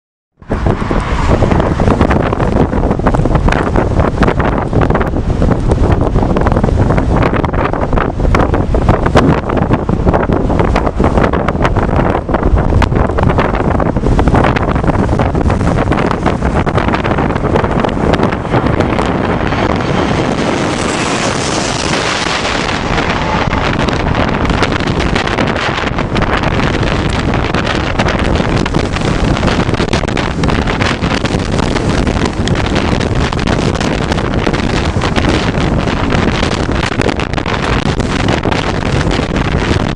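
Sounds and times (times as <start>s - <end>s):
wind buffeting microphone: 0.4s - 39.9s.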